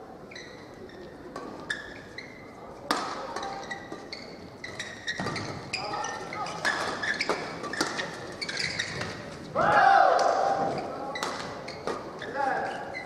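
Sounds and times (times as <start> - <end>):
shoes squeaking on court: 0.2 - 9.6, 10.6 - 13.0.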